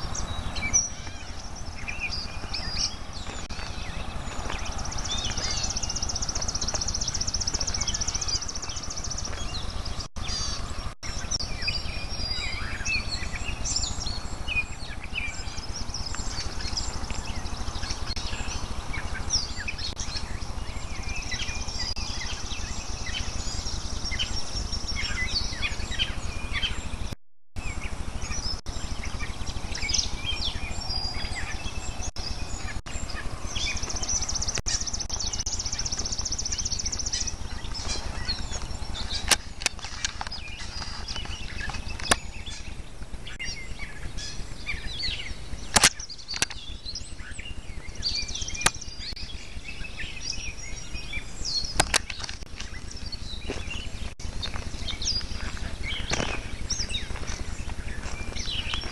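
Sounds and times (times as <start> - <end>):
birds chirping and singing: 0.0 - 58.9
steady low rumble: 0.0 - 58.9.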